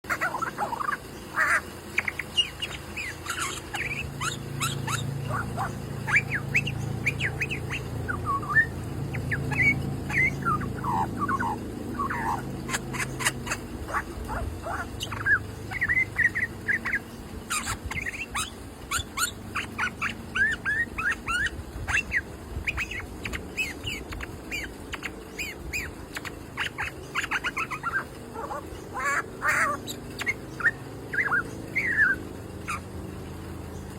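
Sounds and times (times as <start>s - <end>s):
birds chirping and squawking: 0.0s - 33.9s
steady low hum: 0.0s - 33.9s.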